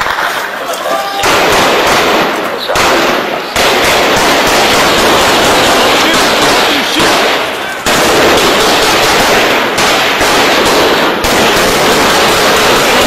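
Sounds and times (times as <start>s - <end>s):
sustained gunfire: 1.2s - 13.0s.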